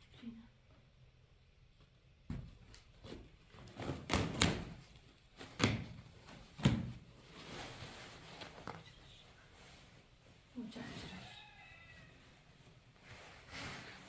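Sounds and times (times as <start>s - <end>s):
handling and rustling: 2.3s - 14.0s.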